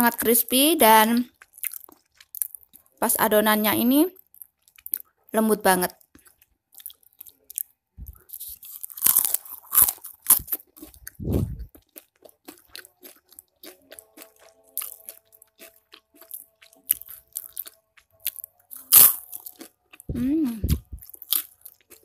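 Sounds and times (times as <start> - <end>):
crunching and chewing fried food: 1.0 - 3.4, 4.1 - 22.0.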